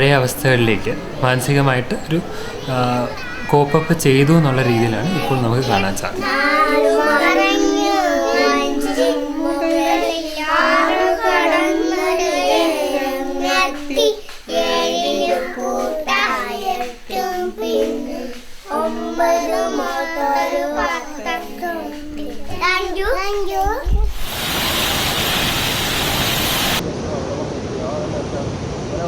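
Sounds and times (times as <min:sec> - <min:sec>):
child singing: 0:00.0 - 0:24.3.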